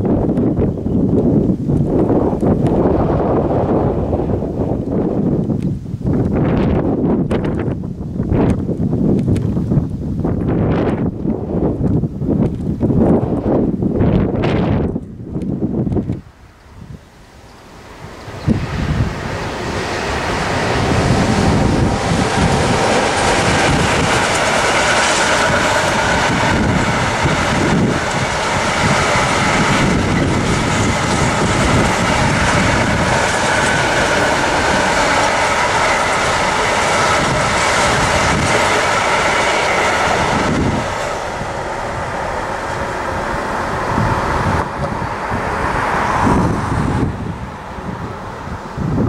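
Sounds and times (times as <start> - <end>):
freight train wheels on rails: 0.0 - 49.0.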